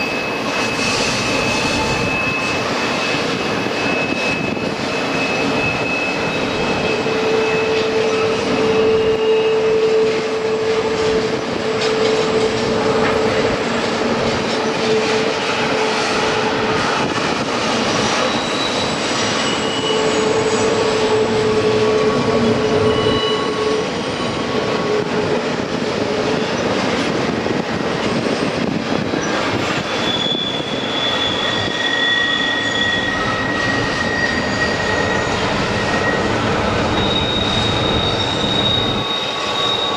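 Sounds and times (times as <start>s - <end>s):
train rumbling on rails: 0.0s - 39.9s
wheels whining: 0.0s - 39.9s.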